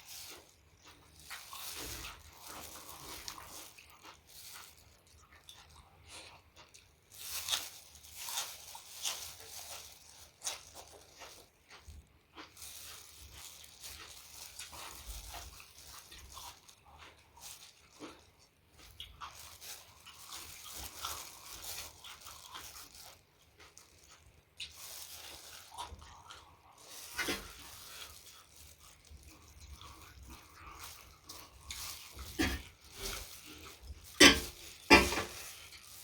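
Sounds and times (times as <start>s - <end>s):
crunching and chewing food: 0.0s - 36.0s.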